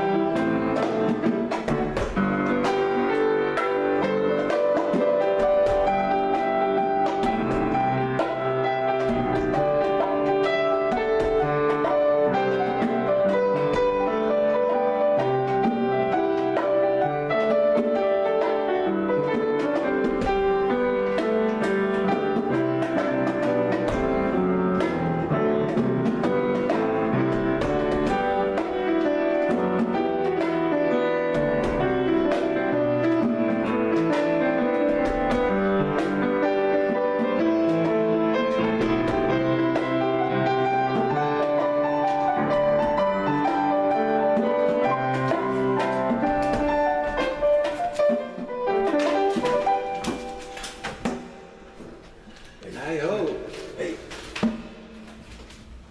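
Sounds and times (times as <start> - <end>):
conga drum struck by hand: 0.0 - 52.4, 53.4 - 55.2
grand piano playing: 0.0 - 55.9.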